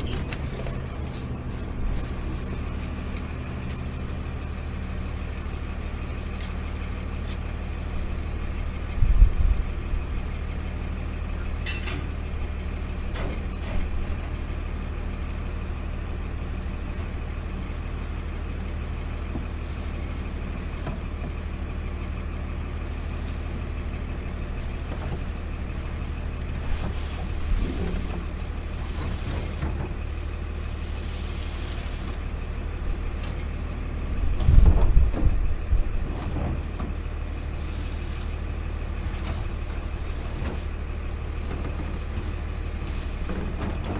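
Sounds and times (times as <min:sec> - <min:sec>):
garbage truck engine running: 0:00.0 - 0:43.9.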